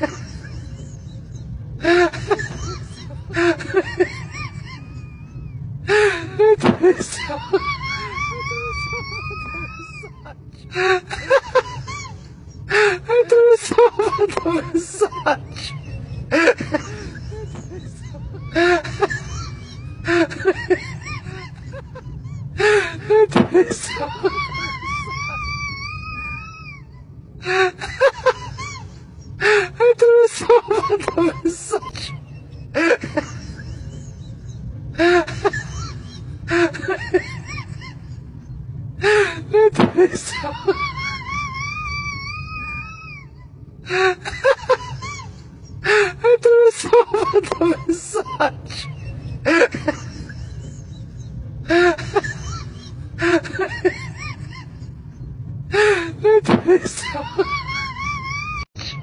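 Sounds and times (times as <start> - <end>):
train carriage rumble: 0.0 - 58.7.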